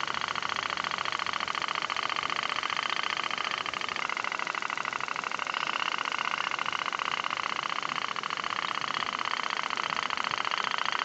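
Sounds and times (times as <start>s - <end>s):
toy boat engine putting: 0.0s - 11.0s.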